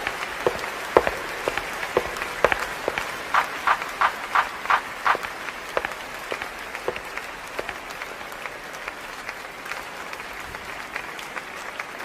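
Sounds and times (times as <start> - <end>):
large audience clapping: 0.0 - 12.0.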